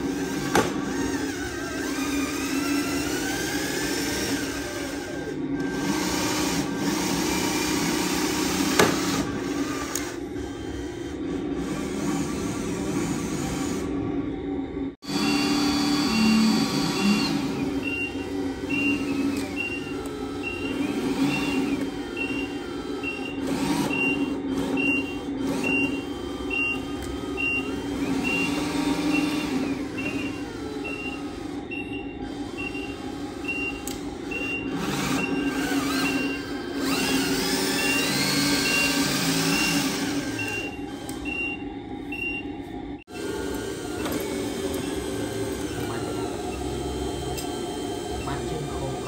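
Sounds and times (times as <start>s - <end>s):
motor whine: 0.0s - 49.0s.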